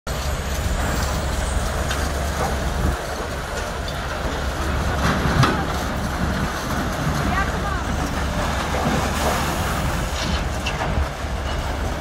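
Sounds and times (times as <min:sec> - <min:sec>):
diesel machinery rumbling: 0:00.1 - 0:12.0.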